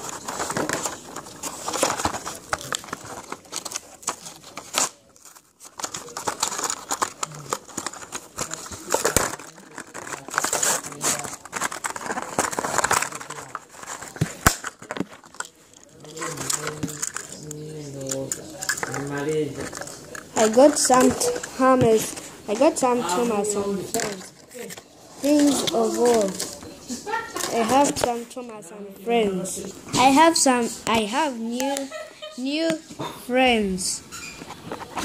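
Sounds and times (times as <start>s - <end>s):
plastic packaging crinkling and tearing: 0.0s - 28.5s.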